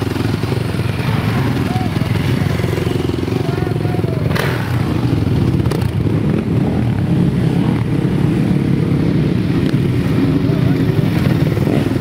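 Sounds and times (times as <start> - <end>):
motocross bike engines rumbling: 0.0 - 12.0.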